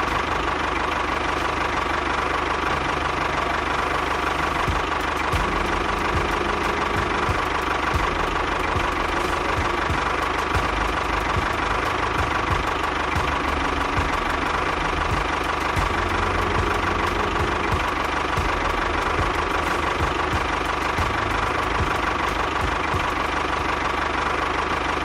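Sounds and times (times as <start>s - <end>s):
small motor rattling drone: 0.0s - 25.0s.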